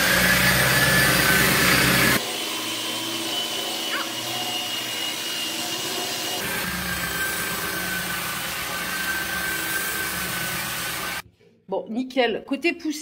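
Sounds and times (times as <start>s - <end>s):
belt sander motor whine: 0.0s - 11.2s
sanding belt rasping: 0.0s - 11.2s.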